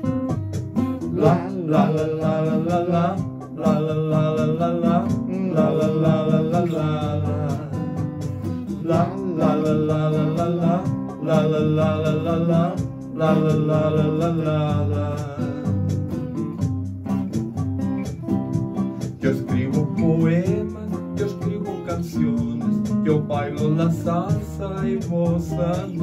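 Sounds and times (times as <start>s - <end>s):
guitar accompaniment: 0.0s - 26.0s
man singing into a microphone: 1.1s - 15.9s, 19.2s - 26.0s.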